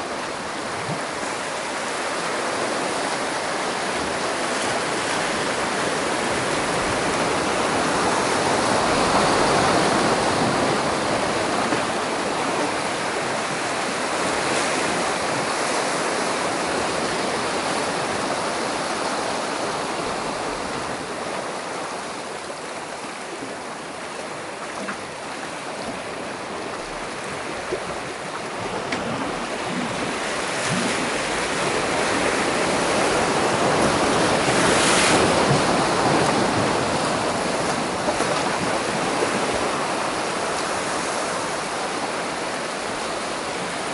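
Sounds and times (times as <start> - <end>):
waves breaking on rocks: 0.0 - 43.9.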